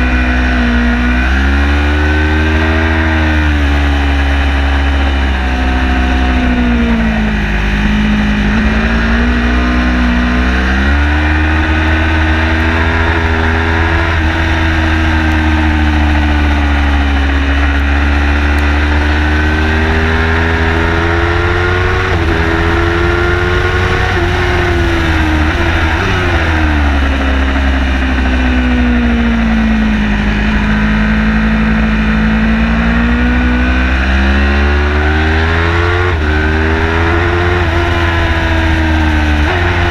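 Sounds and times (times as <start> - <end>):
heavy low rumble: 0.0 - 34.3, 35.5 - 39.9
car engine revving: 0.0 - 39.9.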